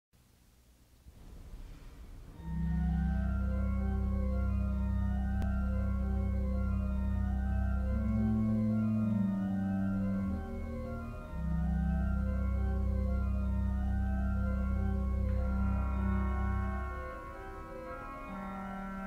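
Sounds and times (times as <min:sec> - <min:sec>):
low organ pedal notes: 0:02.3 - 0:19.0
pipe organ playing: 0:02.4 - 0:19.0.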